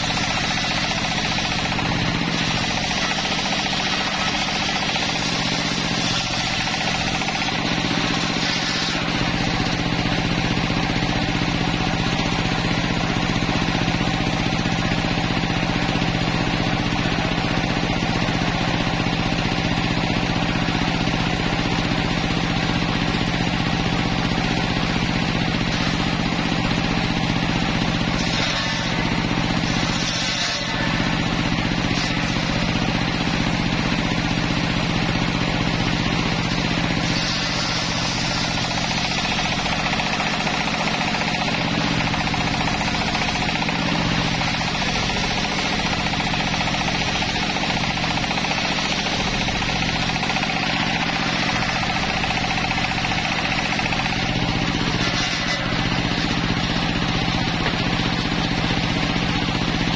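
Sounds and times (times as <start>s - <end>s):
saw cutting log: 0.0s - 59.9s
sawmill blade whirring: 0.0s - 59.9s.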